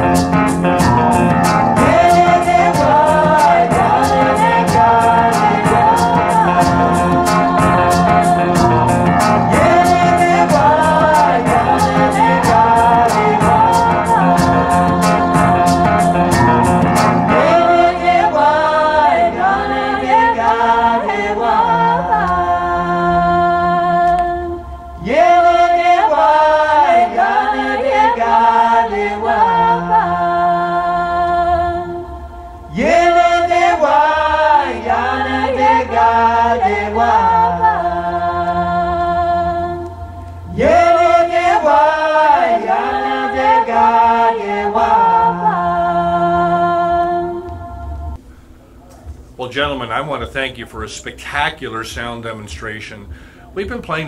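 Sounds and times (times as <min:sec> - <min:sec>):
vocal music over loudspeakers: 0:00.0 - 0:48.2, 0:49.0 - 0:54.0.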